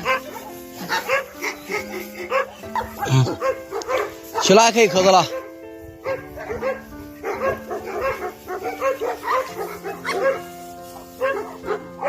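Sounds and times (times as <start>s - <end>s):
background music of held notes: 0.0s - 12.0s
dogs barking: 0.0s - 12.0s.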